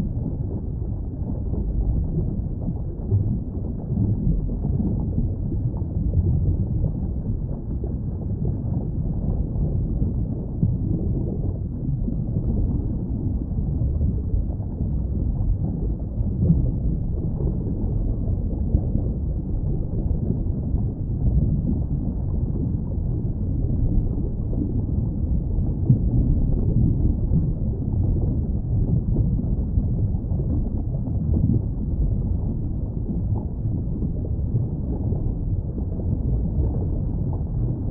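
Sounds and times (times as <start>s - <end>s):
muffled underwater rumble: 0.0s - 37.9s.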